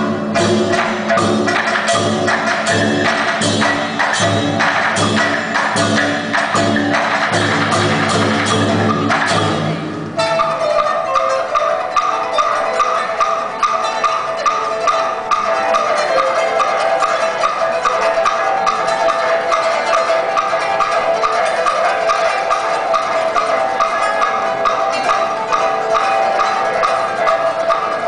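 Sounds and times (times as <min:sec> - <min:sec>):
pipa plucked notes: 0:00.0 - 0:28.0.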